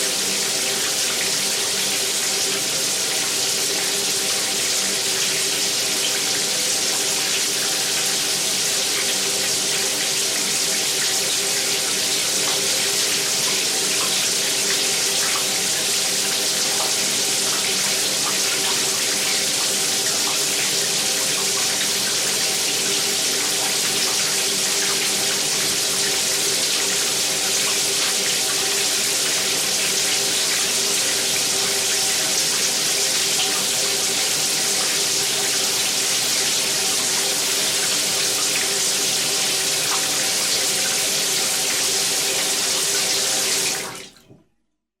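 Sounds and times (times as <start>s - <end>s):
water pouring into bathtub: 0.0s - 44.4s.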